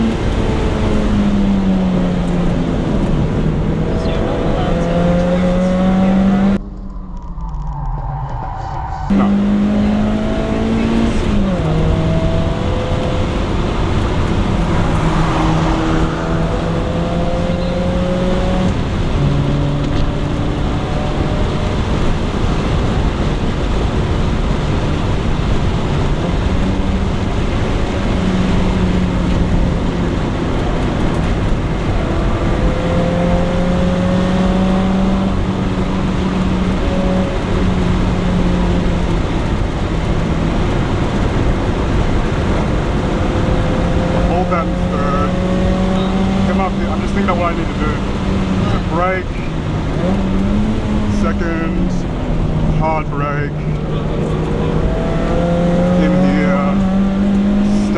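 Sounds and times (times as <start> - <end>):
car engine revving: 0.0 - 57.9
road and wind noise: 0.0 - 57.9.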